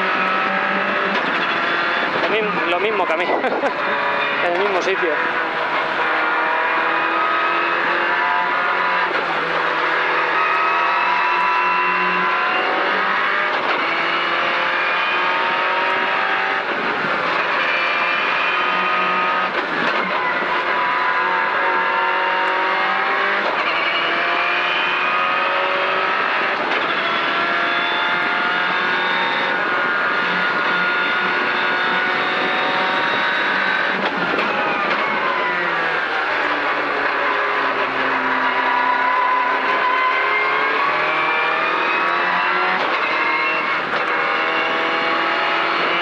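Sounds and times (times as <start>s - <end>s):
gear changes: 0.0s - 46.0s
race car engine at full throttle: 0.0s - 46.0s.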